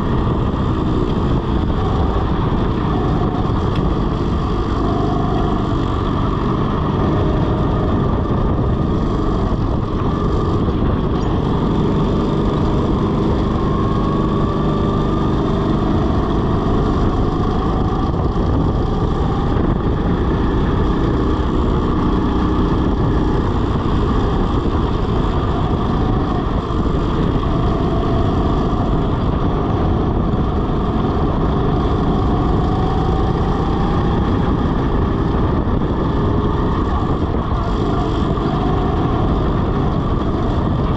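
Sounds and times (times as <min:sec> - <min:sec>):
go-kart motor running hard: 0:00.0 - 0:40.9.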